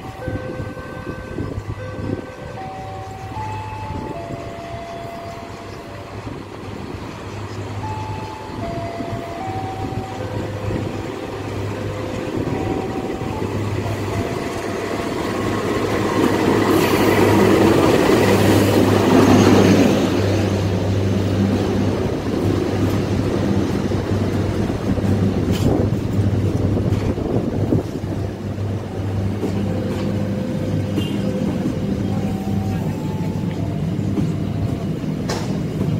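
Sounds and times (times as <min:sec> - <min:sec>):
diesel locomotive engine rumble: 0:00.0 - 0:35.9
train wheels rolling: 0:01.5 - 0:35.9.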